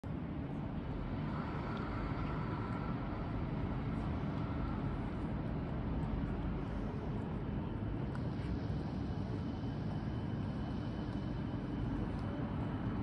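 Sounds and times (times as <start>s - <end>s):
faint steady whine: 0.0s - 13.0s
distant traffic rumble: 0.1s - 13.0s.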